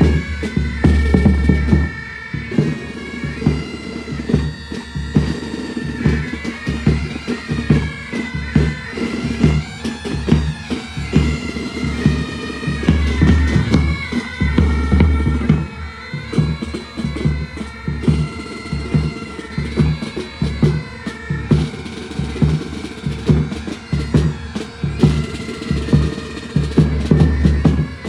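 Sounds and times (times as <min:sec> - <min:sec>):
bagpipes playing melody: 0:00.0 - 0:28.0
regular drum beats: 0:00.0 - 0:28.0.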